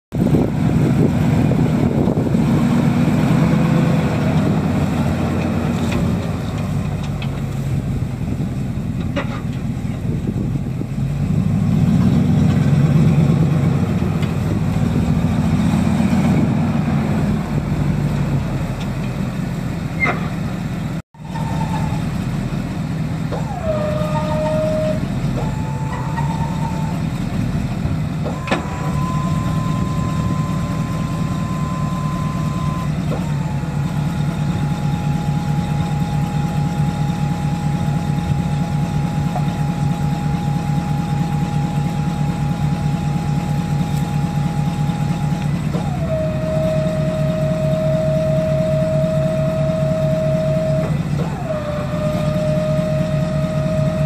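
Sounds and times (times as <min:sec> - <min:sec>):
truck engine rumbling: 0:00.1 - 0:54.0.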